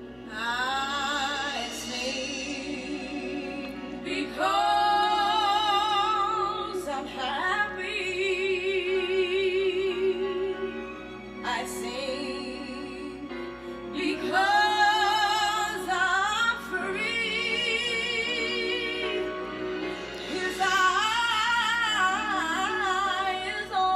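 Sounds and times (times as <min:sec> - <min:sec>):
instrumental accompaniment: 0:00.0 - 0:23.9
woman singing with vibrato: 0:00.3 - 0:19.5, 0:20.2 - 0:23.9.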